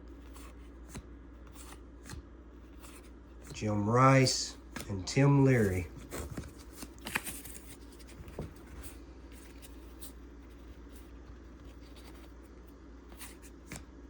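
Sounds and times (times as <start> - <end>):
low room hum: 0.0 - 14.0
paper cards handled and flipped: 0.1 - 12.4, 13.1 - 13.9.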